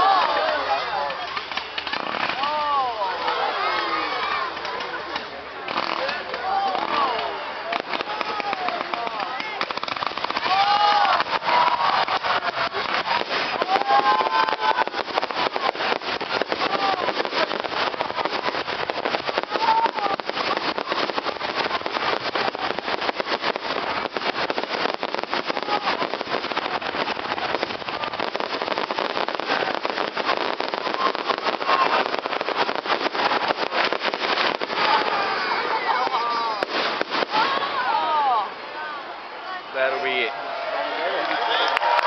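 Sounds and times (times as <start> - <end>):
fireworks crackling: 0.0 - 40.5, 41.2 - 42.0.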